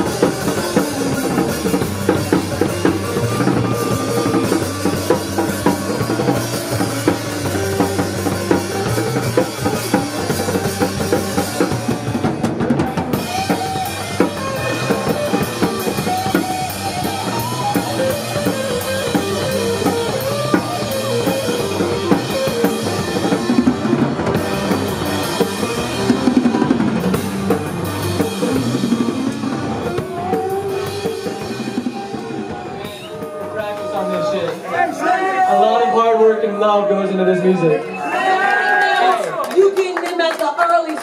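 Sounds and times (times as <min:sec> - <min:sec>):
drum kit playing: 0:00.0 - 0:35.4
live band playing: 0:00.0 - 0:41.0.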